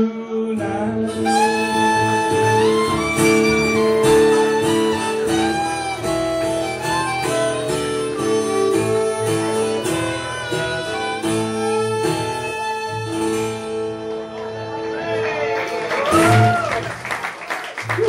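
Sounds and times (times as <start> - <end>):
bowed fiddle: 0.0 - 15.5
harmonica: 0.0 - 16.5
strummed acoustic guitar: 0.2 - 15.2.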